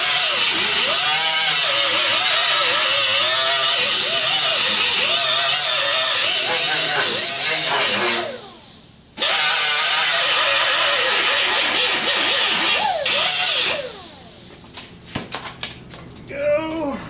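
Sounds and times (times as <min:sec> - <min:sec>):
air tool hiss and whine: 0:00.0 - 0:14.5.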